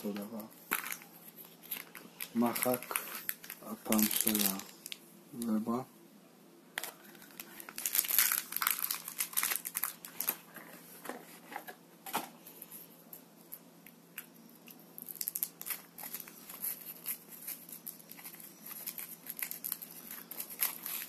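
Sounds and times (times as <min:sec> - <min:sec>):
plastic and foil wrapper crinkling: 0:00.0 - 0:05.6, 0:06.8 - 0:10.8, 0:13.5 - 0:21.0.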